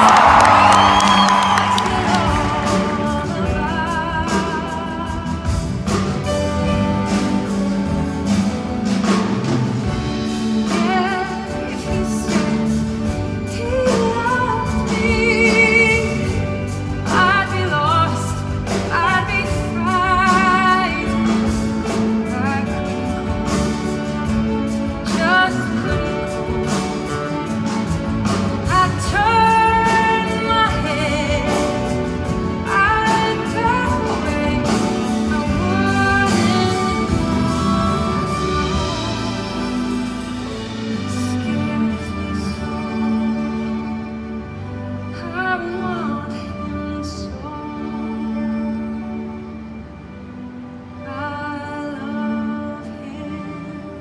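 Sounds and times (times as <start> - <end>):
woman singing a ballad: 0.0 - 7.2, 10.0 - 27.4, 28.6 - 40.1, 40.9 - 44.0, 45.1 - 49.5, 51.0 - 54.0
instrumental accompaniment: 0.0 - 54.0.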